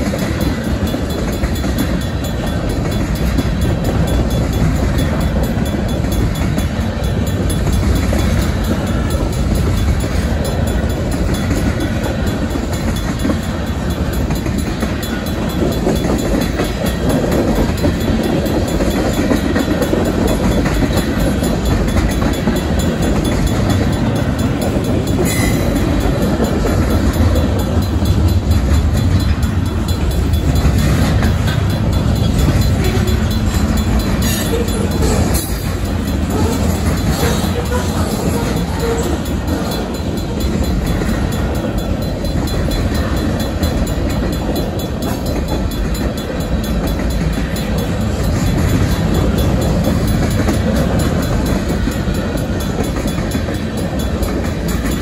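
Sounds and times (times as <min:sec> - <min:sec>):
train wheels clickety-clack on rail: 0:00.0 - 0:55.0.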